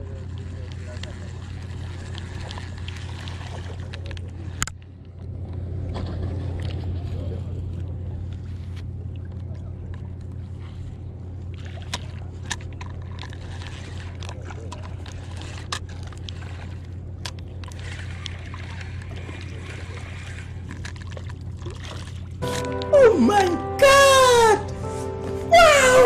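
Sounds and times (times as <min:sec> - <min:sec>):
water sloshing: 0:00.0 - 0:22.8
steady low hum: 0:00.0 - 0:23.3.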